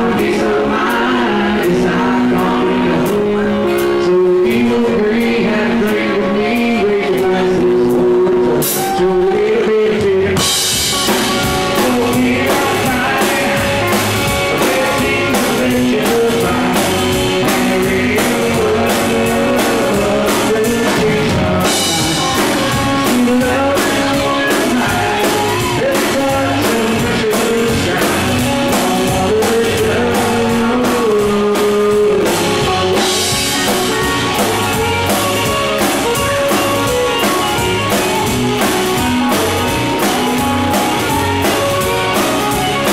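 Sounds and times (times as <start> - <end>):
country-rock band playing: 0.0 - 42.9
person singing: 0.0 - 42.9.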